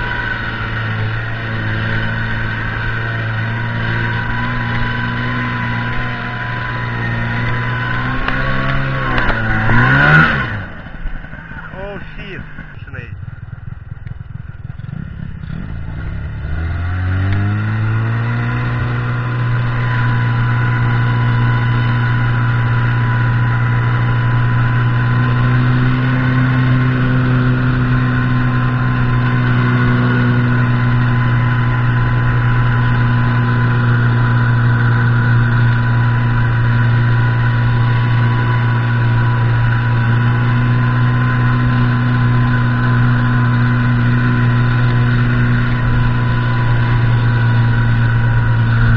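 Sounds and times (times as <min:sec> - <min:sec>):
snowmobile engine revving: 0:00.0 - 0:13.4, 0:14.6 - 0:48.9.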